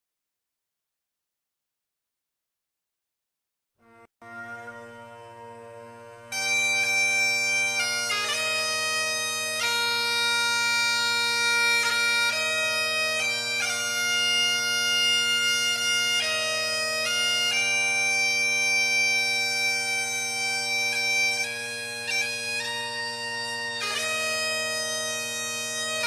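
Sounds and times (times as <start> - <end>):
bagpipe chanter melody: 3.8 - 26.0
bagpipe drones: 3.8 - 26.0.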